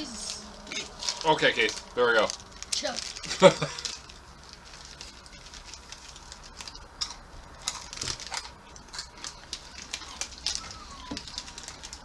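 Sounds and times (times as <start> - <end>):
crisp crunches of chewing peanuts: 0.1 - 12.0.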